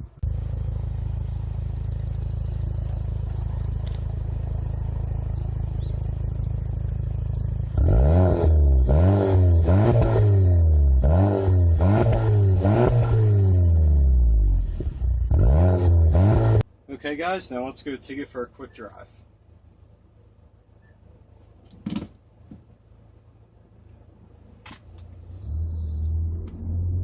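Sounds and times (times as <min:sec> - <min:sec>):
car exhaust idling and revving: 0:00.0 - 0:16.8, 0:22.2 - 0:27.0.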